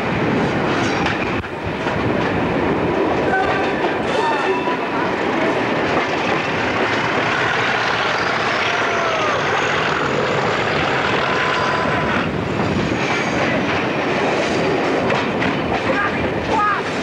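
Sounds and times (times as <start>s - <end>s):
diesel locomotive engine: 0.0s - 17.0s
wind: 0.0s - 17.0s.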